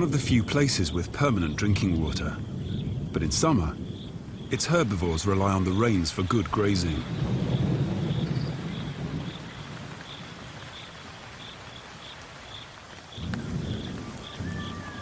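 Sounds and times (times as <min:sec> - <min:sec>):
rain hissing: 0:00.0 - 0:15.0
thunder rumbling: 0:00.0 - 0:15.0
faint high insect chirp: 0:00.2 - 0:04.7, 0:07.0 - 0:15.0.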